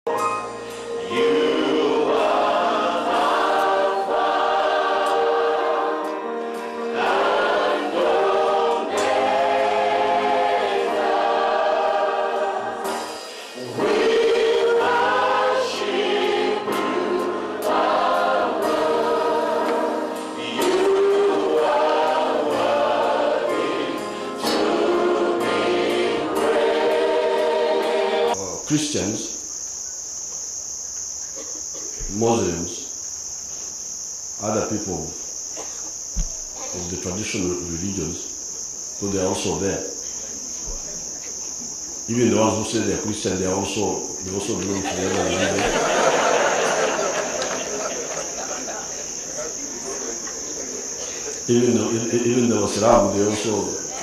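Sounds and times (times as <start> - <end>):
choir singing religious song: 0.2 - 29.4, 36.0 - 54.0.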